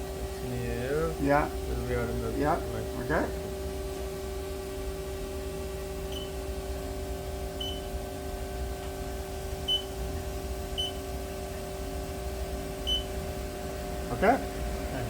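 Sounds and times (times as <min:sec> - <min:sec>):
machine electrical hum: 0:00.0 - 0:15.0.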